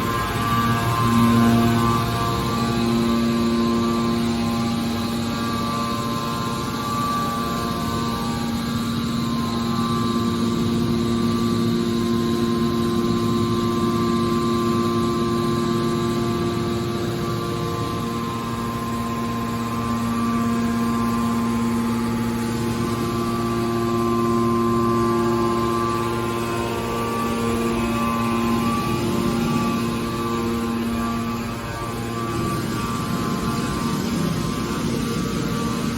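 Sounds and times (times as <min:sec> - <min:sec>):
machine hum with fixed tones: 0:00.0 - 0:35.9.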